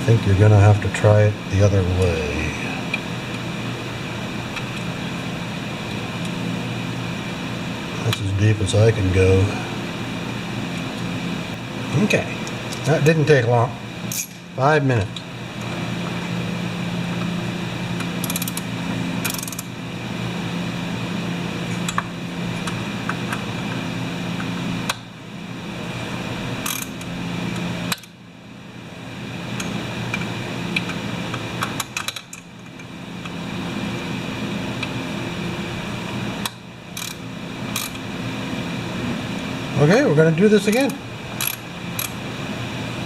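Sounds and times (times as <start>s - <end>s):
small machine humming: 0.0s - 43.0s.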